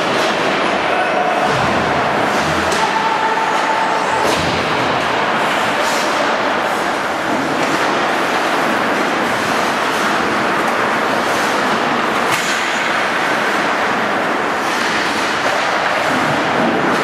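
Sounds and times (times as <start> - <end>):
ice rink noise: 0.0 - 17.0
skates scraping ice: 0.0 - 17.0.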